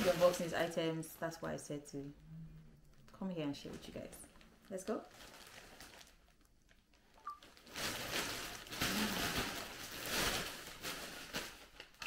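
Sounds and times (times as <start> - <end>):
plastic mailer rustling: 0.0 - 1.6, 3.5 - 12.0.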